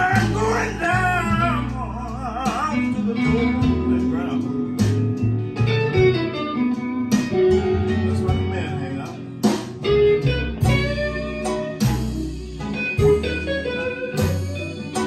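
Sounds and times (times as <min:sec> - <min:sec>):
blues guitar music: 0:00.0 - 0:15.0.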